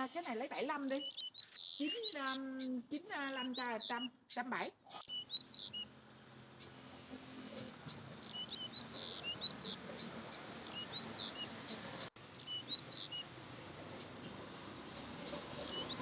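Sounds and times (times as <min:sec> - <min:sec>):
small bird chirping: 0:00.0 - 0:06.9, 0:08.2 - 0:13.3, 0:14.9 - 0:16.0.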